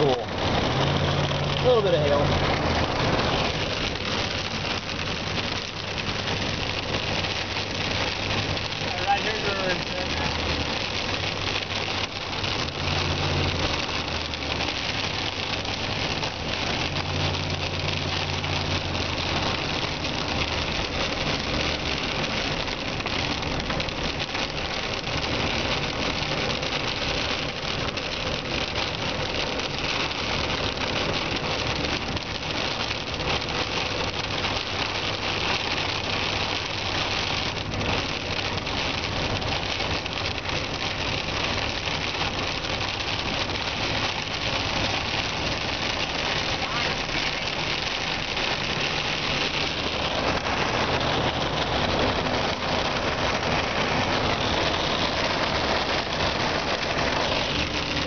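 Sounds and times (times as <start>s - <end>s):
car engine and road noise: 0.0s - 58.0s
rain and hail on car roof: 0.0s - 58.0s.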